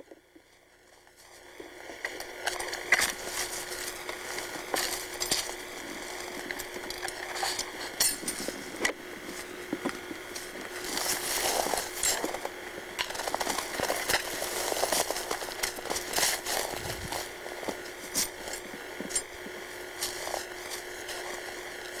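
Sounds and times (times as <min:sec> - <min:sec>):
brush and twigs crackling: 0:00.5 - 0:22.0.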